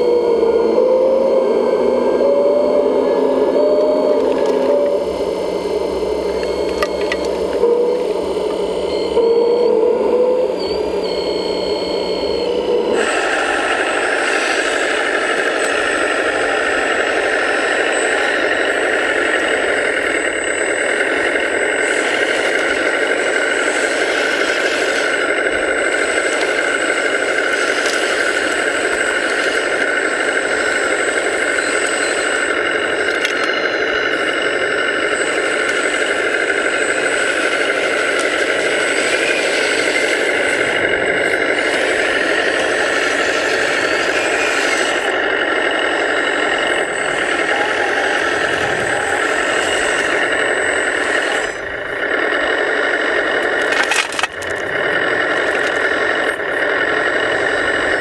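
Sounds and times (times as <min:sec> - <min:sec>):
small electric motor whine: 0:00.0 - 0:58.0.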